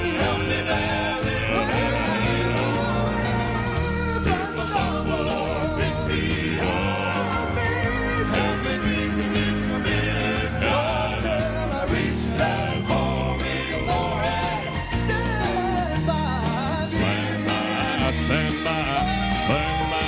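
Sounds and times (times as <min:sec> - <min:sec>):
male quartet singing in harmony: 0:00.0 - 0:20.0
piano accompaniment: 0:00.0 - 0:20.0.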